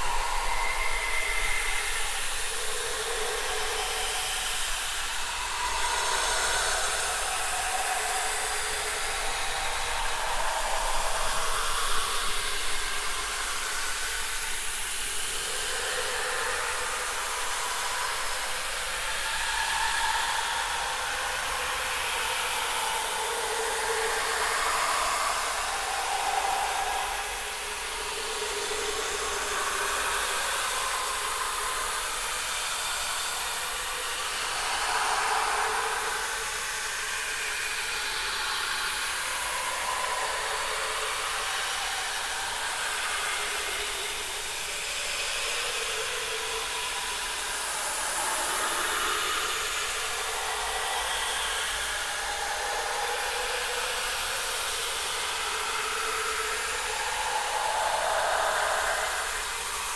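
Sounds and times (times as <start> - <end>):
airy horror hiss: 0.0 - 59.9.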